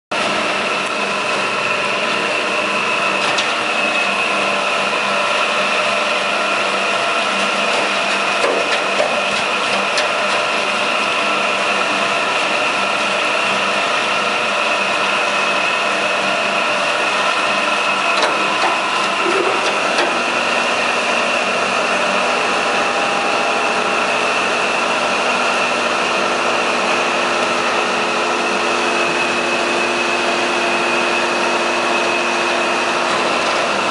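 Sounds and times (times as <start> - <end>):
high mechanical whine: 0.2 - 33.9
machinery drone: 0.2 - 33.9.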